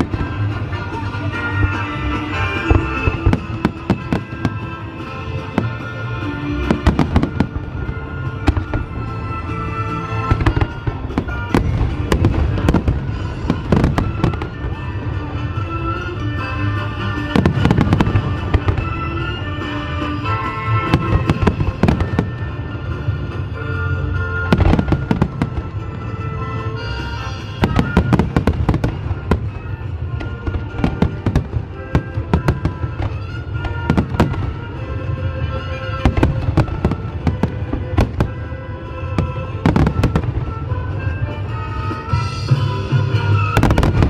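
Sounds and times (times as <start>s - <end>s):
fireworks bursting: 0.0s - 44.0s
music with held notes: 0.0s - 44.0s.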